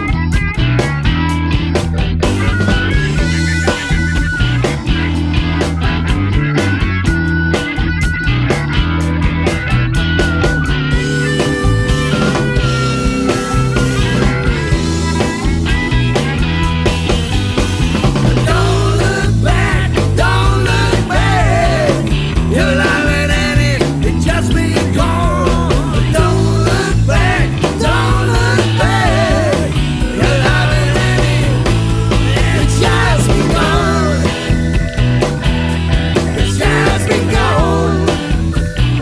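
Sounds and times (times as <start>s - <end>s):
rock band playing instrumental: 0.0s - 39.0s.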